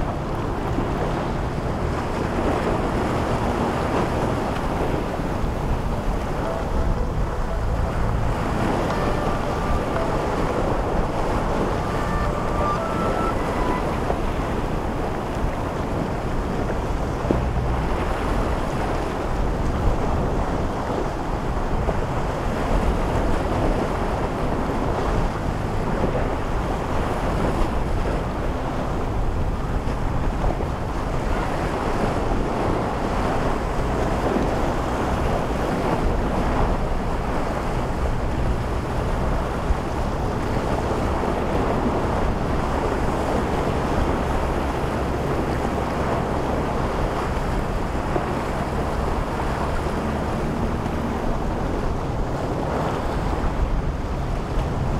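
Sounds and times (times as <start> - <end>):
boat engines running: 0.0 - 54.9
waves and surf: 0.0 - 54.9
wind on microphone: 0.0 - 54.9.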